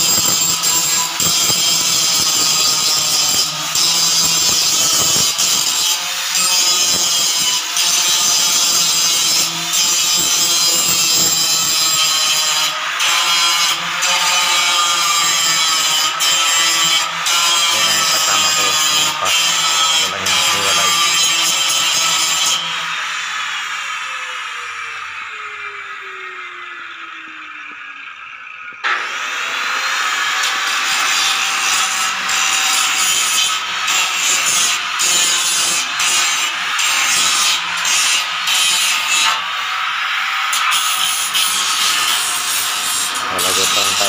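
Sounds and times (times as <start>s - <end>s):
angle grinder cutting steel: 0.0s - 44.0s.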